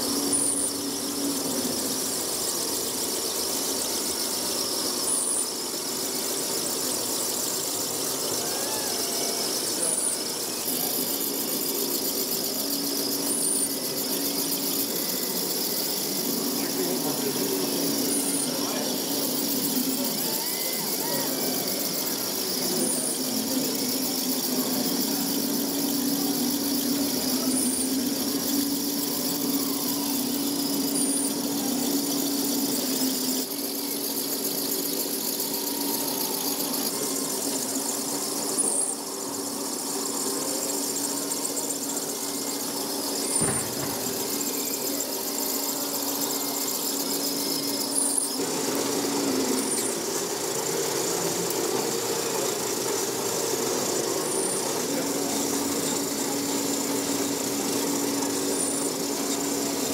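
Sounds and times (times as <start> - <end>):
model machinery whine: 0.0 - 59.9.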